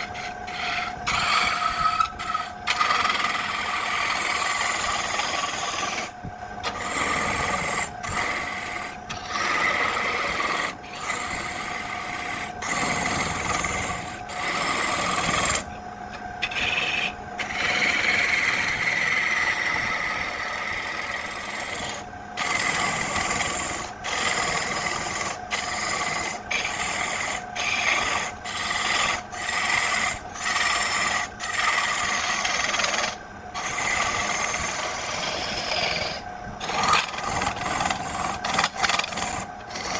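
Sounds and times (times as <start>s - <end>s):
rasping wood scrape: 0.0s - 39.9s.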